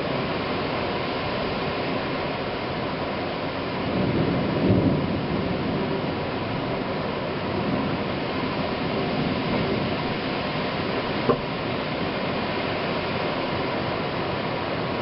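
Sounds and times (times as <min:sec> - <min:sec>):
heavy rain falling: 0:03.0 - 0:15.0.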